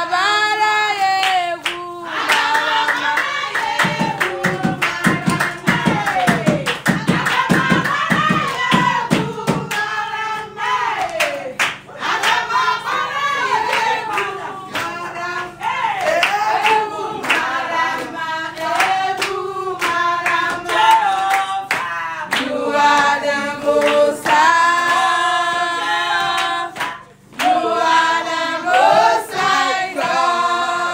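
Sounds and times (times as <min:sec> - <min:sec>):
group of people singing: 0:00.0 - 0:30.9
rhythmic handclapping: 0:00.0 - 0:30.9.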